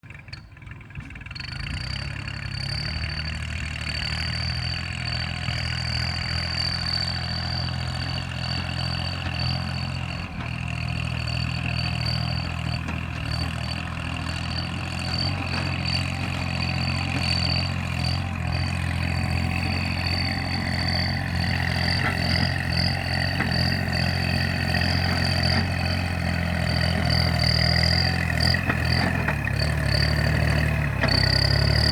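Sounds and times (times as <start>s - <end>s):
tractor diesel engine running: 0.0s - 31.9s
high-pitched exhaust whistle: 4.1s - 31.9s.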